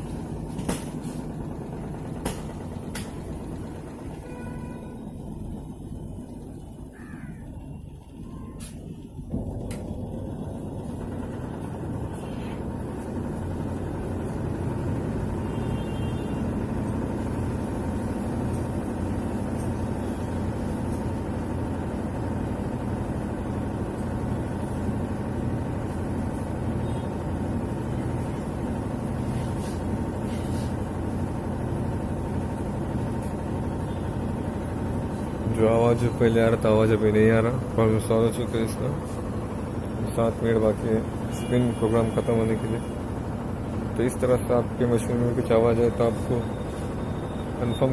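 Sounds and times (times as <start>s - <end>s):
washing machine spin cycle hum: 0.0s - 47.9s.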